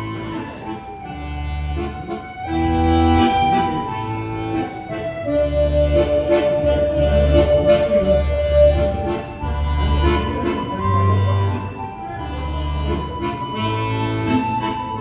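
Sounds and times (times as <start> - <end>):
reedy melody over bass notes: 1.0 - 15.0.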